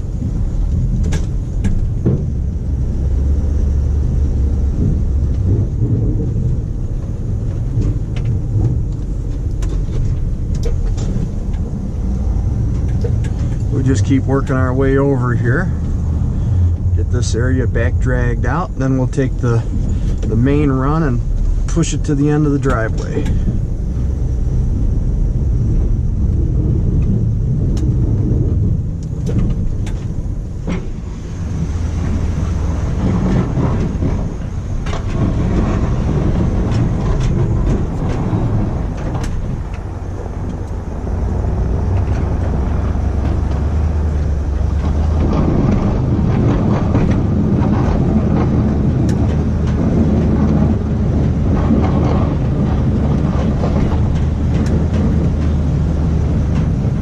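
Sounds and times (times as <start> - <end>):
pickup truck engine under load: 0.0 - 57.0.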